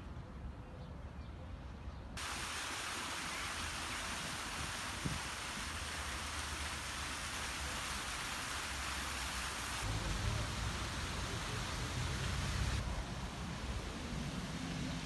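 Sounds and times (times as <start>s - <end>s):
even hiss: 2.2s - 15.0s.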